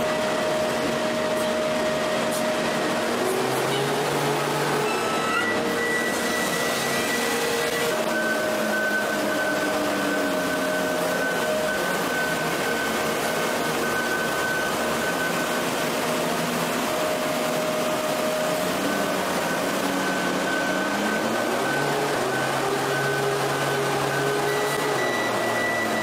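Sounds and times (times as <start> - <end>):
machine whining tones: 0.0 - 26.0.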